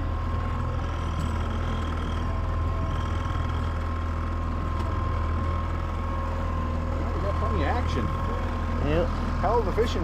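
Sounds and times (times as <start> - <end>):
outboard motor droning: 0.0 - 10.0.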